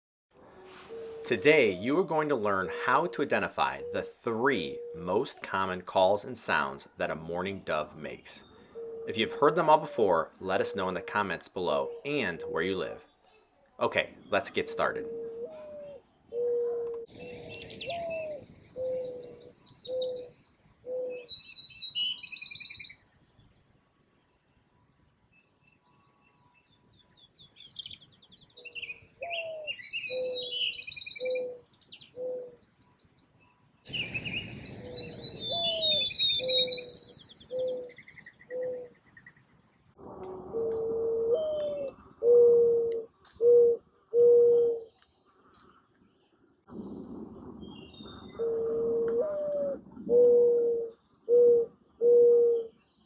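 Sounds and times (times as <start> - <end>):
mourning dove cooing: 0.4 - 13.1, 13.9 - 23.2, 28.5 - 33.1, 33.9 - 39.1, 40.0 - 45.0, 46.7 - 52.9
songbirds chirping and trilling: 0.4 - 53.0.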